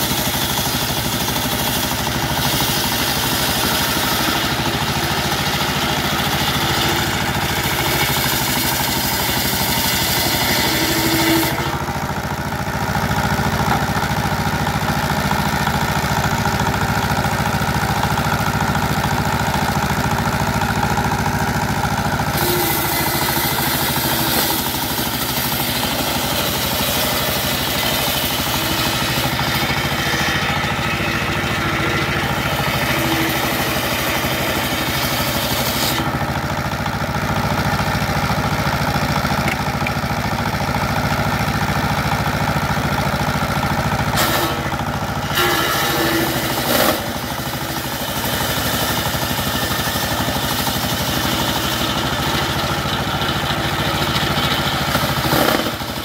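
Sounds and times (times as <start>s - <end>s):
circular saw blade cutting wood: 0.0s - 37.0s, 44.0s - 56.0s
diesel engine running steadily: 0.0s - 56.0s.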